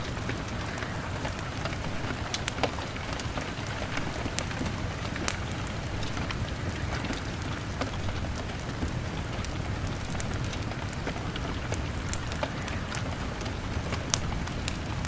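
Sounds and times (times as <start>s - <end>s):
log fire crackling: 0.0s - 15.0s
rain on a window: 0.0s - 15.0s.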